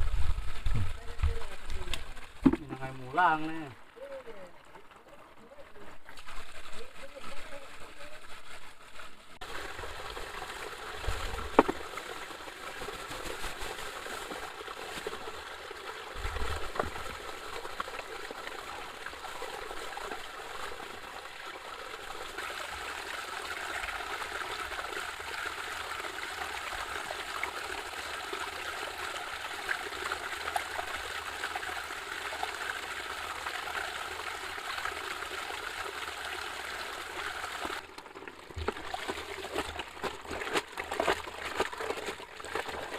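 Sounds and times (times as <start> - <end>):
water trickling: 0.3 - 8.4, 9.2 - 42.9.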